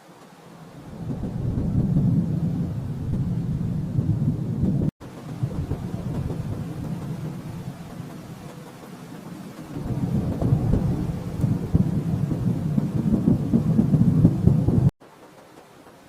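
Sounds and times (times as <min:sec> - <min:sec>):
distant thunder rumbling: 0:00.7 - 0:15.0.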